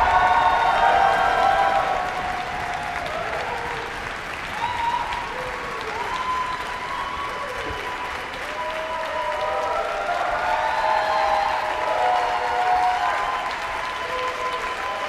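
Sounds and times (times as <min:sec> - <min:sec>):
audience applauding: 0:00.0 - 0:15.0
people whooping and cheering: 0:00.0 - 0:15.0.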